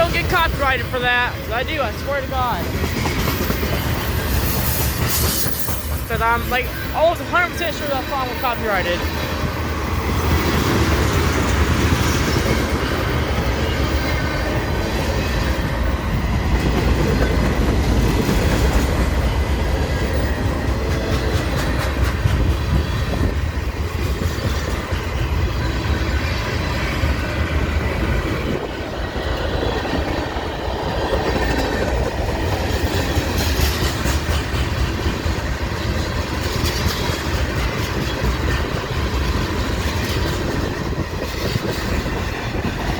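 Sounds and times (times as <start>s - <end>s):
train wheels rumbling on rail: 0.0s - 42.9s
wheels clicking over rail joints: 2.6s - 25.4s, 28.4s - 42.9s.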